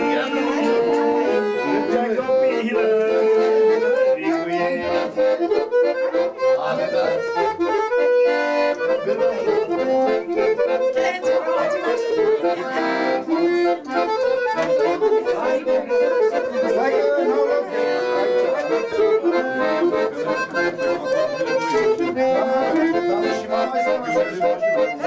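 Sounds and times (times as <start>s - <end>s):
accordion playing a folk tune: 0.0s - 25.0s.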